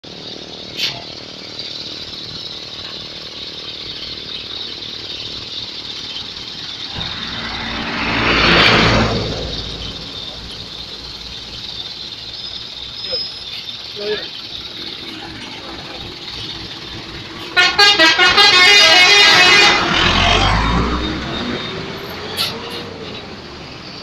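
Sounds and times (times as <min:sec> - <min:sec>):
background traffic: 0:00.0 - 0:24.0
bus passing by: 0:00.0 - 0:24.0.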